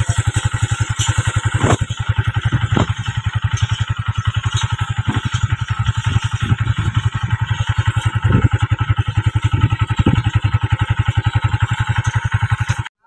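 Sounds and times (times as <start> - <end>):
small engine puttering: 0.0 - 13.0.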